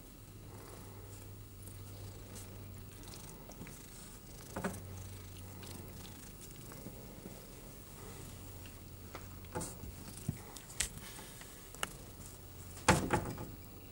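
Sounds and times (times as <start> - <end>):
cat purring: 0.0 - 12.8.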